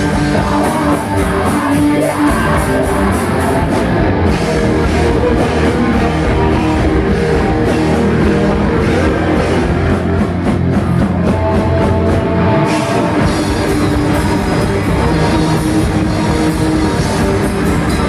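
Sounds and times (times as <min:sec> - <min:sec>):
bass guitar: 0:00.0 - 0:18.0
drum kit: 0:00.0 - 0:18.0
electric guitar: 0:00.0 - 0:18.0.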